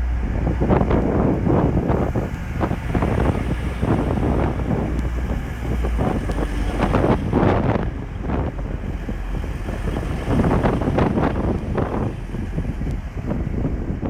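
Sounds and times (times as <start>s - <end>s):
diesel train rumbling: 0.0s - 14.0s
wind buffeting microphone: 0.0s - 14.0s.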